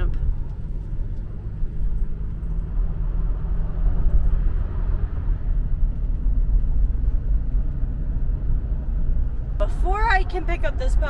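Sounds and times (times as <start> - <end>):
car cabin road and engine noise: 0.0 - 11.0.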